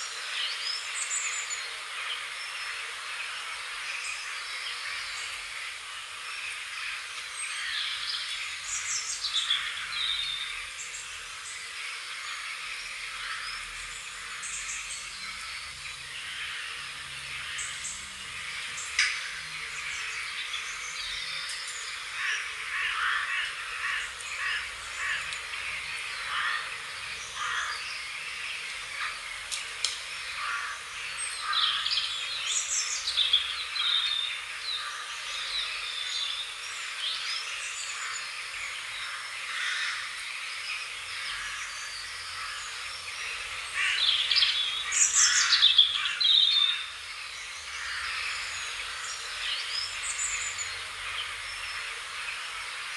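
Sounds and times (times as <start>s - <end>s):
outdoor background noise: 0.0s - 52.9s
songbirds chirping and singing: 0.0s - 52.9s.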